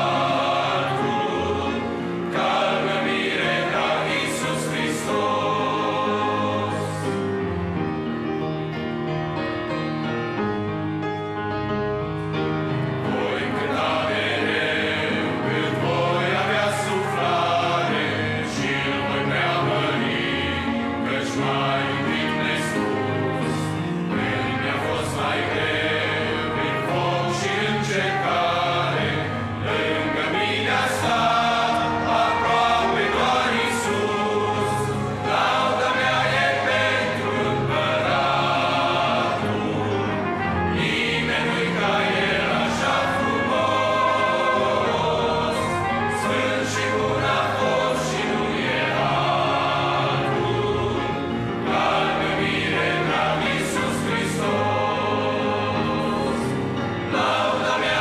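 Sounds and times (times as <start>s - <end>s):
trumpet: 0.0s - 6.8s, 13.1s - 56.5s
men's choir singing a hymn: 0.0s - 8.1s, 12.5s - 58.0s
piano: 0.0s - 58.0s.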